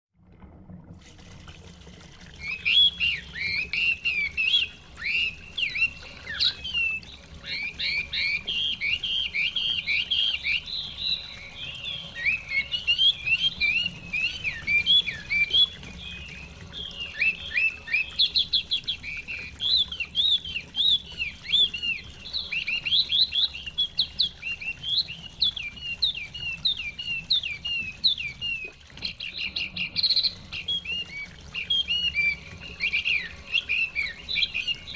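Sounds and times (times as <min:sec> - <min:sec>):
songbird whistling rapid phrases: 0:02.4 - 0:34.9.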